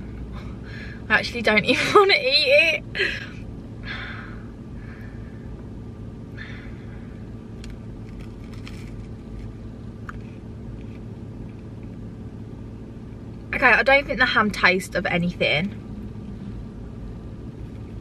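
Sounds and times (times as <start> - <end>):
car cabin rumble: 0.0 - 18.0.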